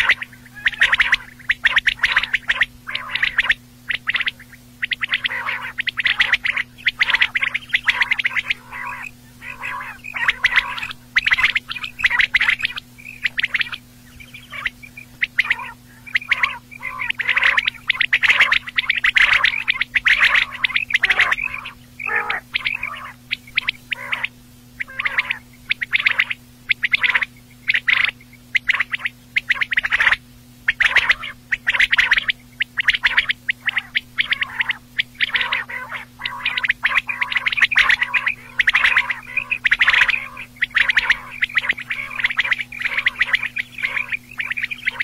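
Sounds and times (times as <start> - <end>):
quail calling: 0.0 - 45.0
steady low hum: 0.0 - 45.0.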